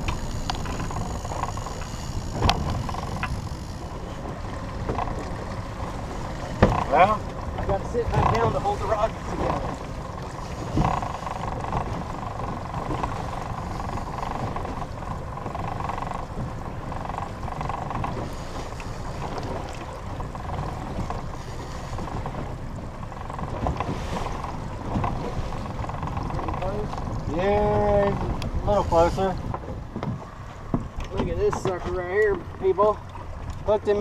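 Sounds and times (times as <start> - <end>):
boat engine rumble: 0.0 - 34.0
wind: 0.0 - 34.0.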